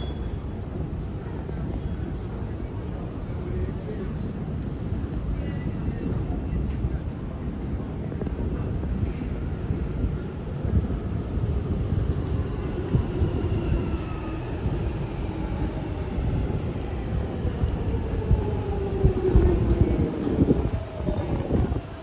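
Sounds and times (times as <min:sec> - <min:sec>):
underground train rumble and motor whine: 0:00.0 - 0:22.0.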